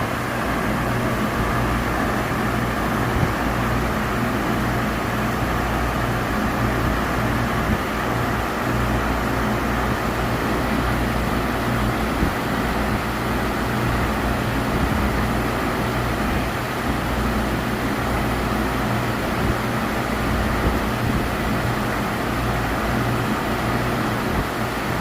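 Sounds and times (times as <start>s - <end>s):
milling machine hum and whirr: 0.0s - 25.0s.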